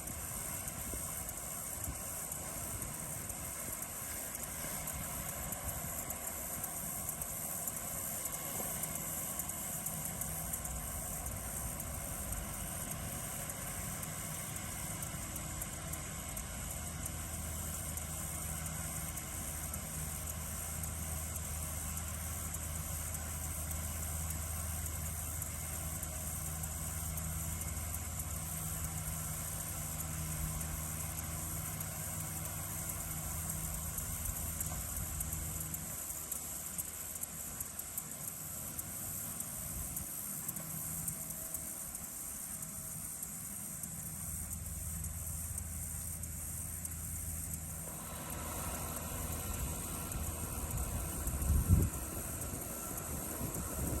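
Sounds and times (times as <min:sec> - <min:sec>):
crickets chirping: 0:00.0 - 0:54.0
tractor engine humming: 0:00.0 - 0:54.0.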